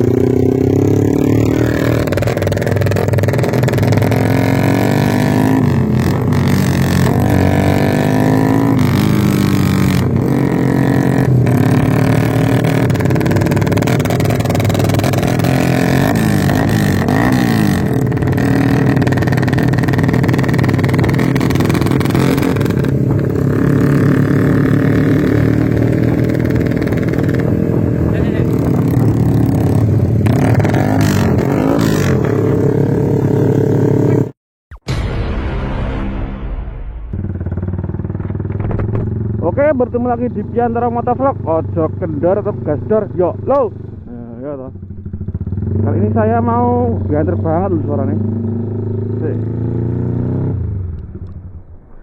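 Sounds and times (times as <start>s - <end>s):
loud motorcycle engine revving: 0.0s - 34.4s, 37.1s - 51.0s.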